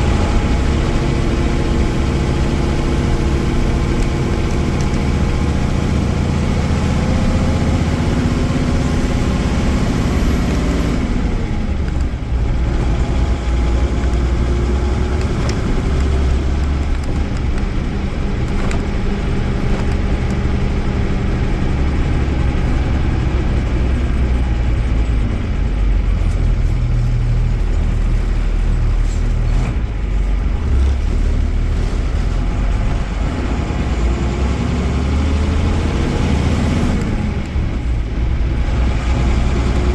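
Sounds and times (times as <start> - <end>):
diesel coach engine revving: 0.0 - 39.9.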